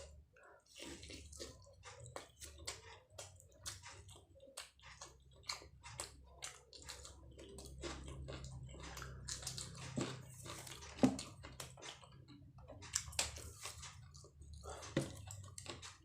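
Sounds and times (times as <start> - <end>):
close-up wet chewing: 0.0 - 16.0.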